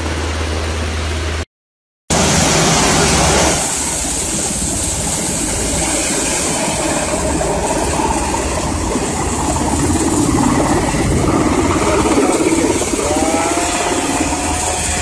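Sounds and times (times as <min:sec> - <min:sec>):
helicopter rotor and engine: 0:02.1 - 0:15.0.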